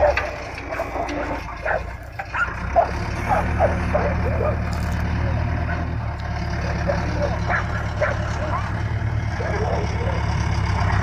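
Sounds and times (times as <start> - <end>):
dog barking: 0.0 - 6.0, 6.6 - 10.3
diesel engine running under load: 0.0 - 11.0.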